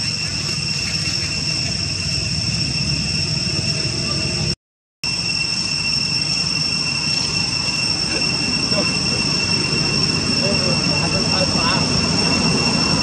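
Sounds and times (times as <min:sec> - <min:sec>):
high-pitched drone: 0:00.0 - 0:13.0.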